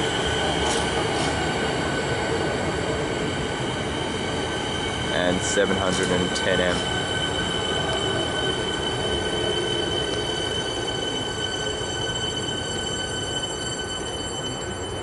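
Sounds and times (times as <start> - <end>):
electric train rumble: 0.0 - 15.0
high-pitched train squeal: 0.0 - 15.0.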